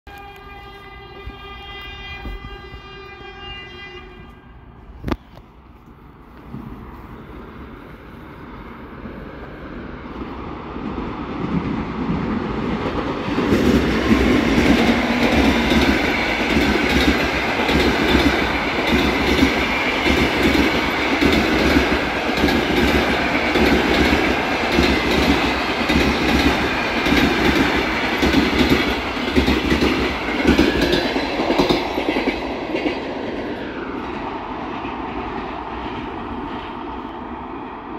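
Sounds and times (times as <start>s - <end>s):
train rumble passing: 0.1s - 37.9s.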